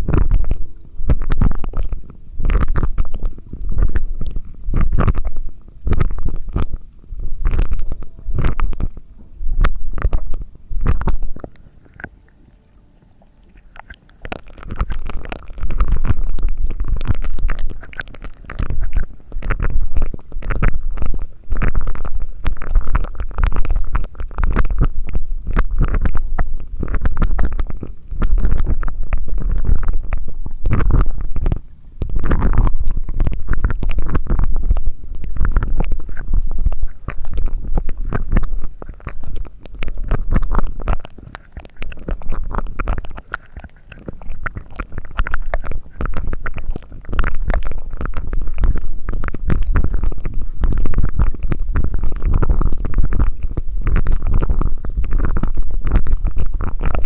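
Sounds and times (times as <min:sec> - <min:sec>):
mouth sounds crackling and clicking: 0:00.0 - 0:12.4, 0:13.0 - 0:57.0.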